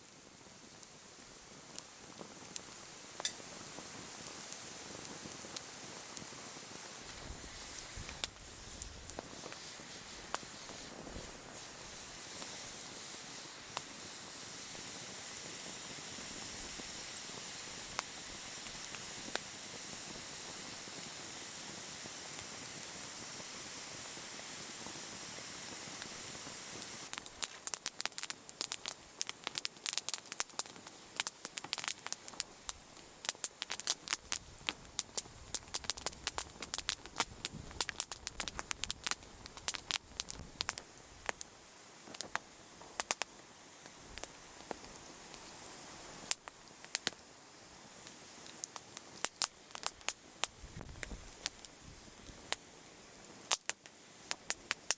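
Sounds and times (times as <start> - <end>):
fire hissing: 0.0 - 54.9
wood fire crackling and popping: 0.0 - 54.9.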